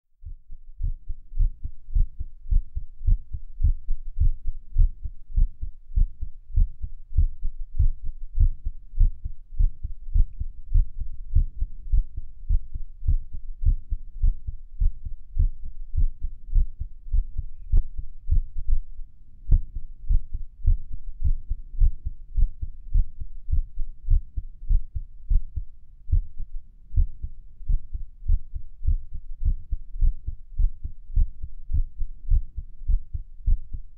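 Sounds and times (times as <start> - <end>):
heartbeat thudding: 0.2 - 33.9.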